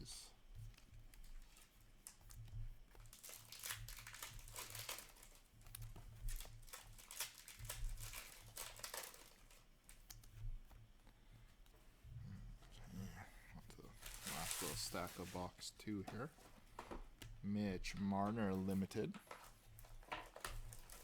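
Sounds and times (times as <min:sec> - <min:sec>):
foil wrappers crinkling: 0:00.0 - 0:10.4, 0:13.7 - 0:21.0.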